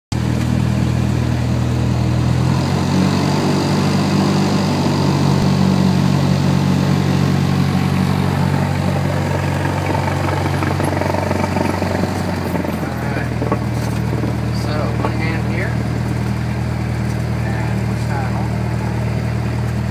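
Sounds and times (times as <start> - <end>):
propeller plane engine drone: 0.1 - 19.9.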